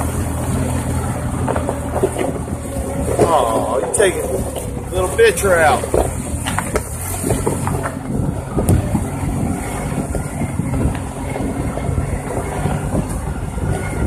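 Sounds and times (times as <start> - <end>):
engine rumble: 0.0 - 14.0
tyres crunching over gravel: 0.0 - 14.0.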